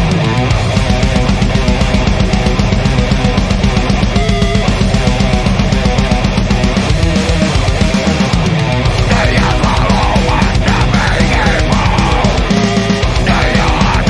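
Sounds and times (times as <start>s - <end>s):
heavy rock song: 0.0s - 14.0s.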